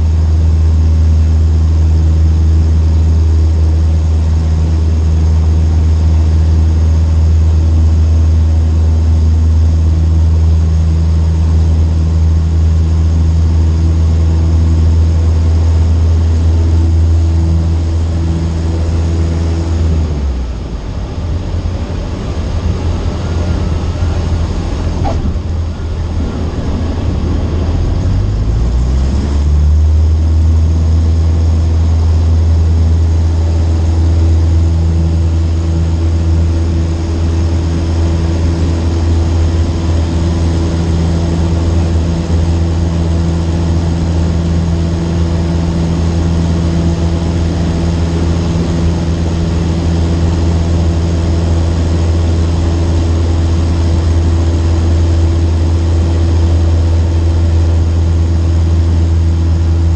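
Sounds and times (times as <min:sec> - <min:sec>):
propeller plane engine running: 0:00.0 - 0:59.9.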